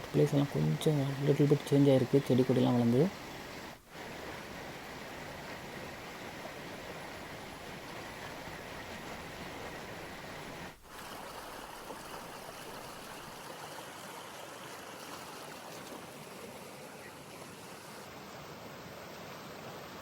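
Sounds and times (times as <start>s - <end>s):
stream rushing at small waterfall: 0.0s - 20.0s.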